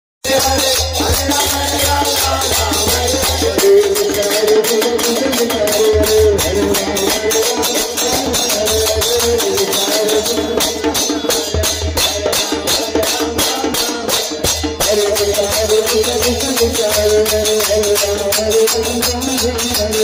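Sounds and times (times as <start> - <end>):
hand cymbals: 0.3 - 20.0.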